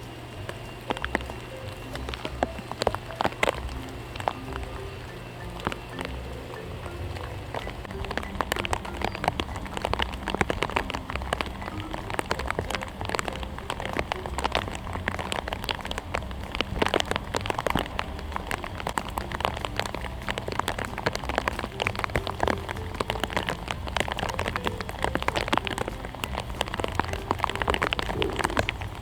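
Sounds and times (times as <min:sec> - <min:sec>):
rain pattering on hard surface: 0:00.0 - 0:29.0.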